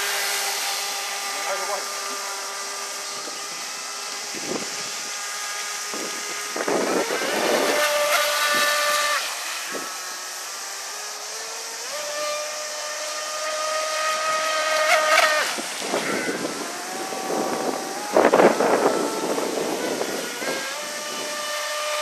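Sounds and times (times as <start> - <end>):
electric boat motor whining: 0.0 - 22.0.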